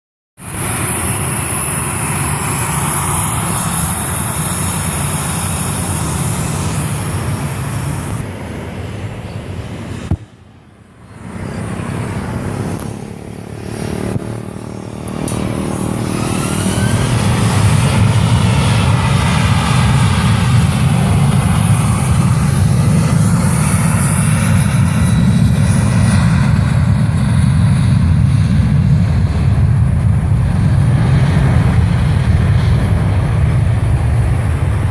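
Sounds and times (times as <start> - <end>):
jet engines running: 0.4 - 34.9
jet engines spooling up whine: 0.4 - 34.9.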